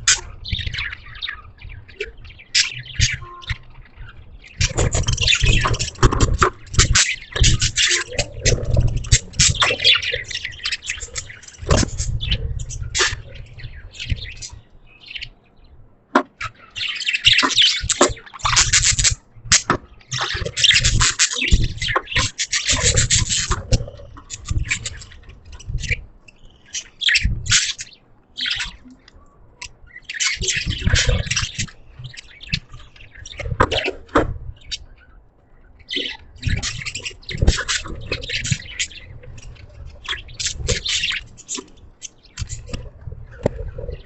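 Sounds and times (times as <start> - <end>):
budgerigars chirping: 0.0 - 15.5, 16.4 - 44.0.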